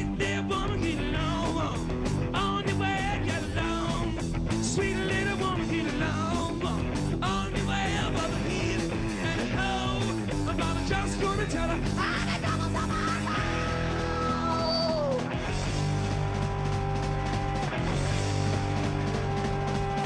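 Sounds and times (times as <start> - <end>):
live hard rock band playing: 0.0 - 20.0.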